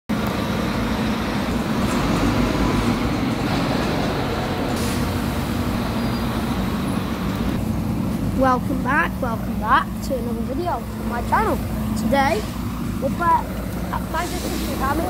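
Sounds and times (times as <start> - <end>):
bus engines rumbling: 0.1 - 15.0.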